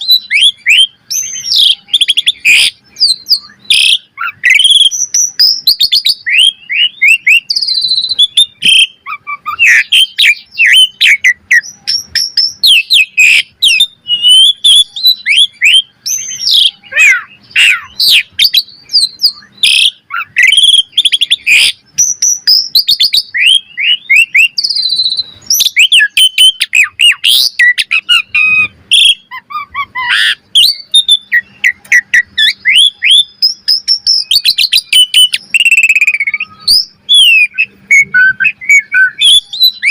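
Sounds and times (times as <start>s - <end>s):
starling singing whistled notes: 0.0s - 39.9s.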